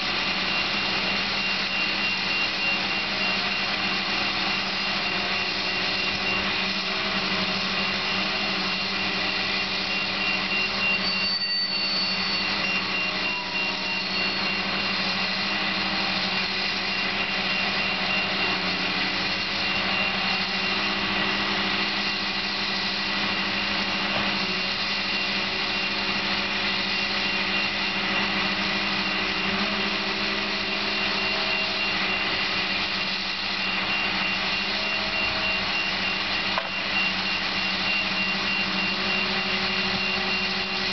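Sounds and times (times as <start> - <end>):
crane engine droning: 0.0 - 40.9
thin high whine: 0.0 - 40.9.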